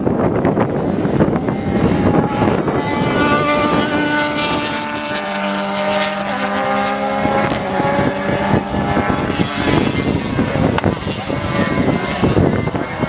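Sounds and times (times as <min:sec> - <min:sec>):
wind buffeting microphone: 0:00.0 - 0:13.0
race car engine passing: 0:00.6 - 0:13.0.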